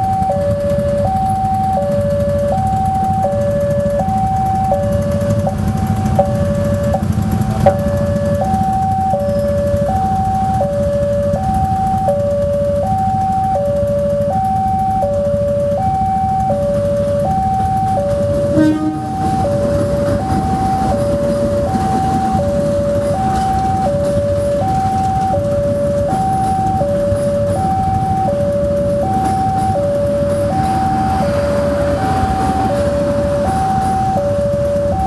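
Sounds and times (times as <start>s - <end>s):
low traffic rumble: 0.0s - 35.0s
two-tone crossing alarm: 0.0s - 35.0s.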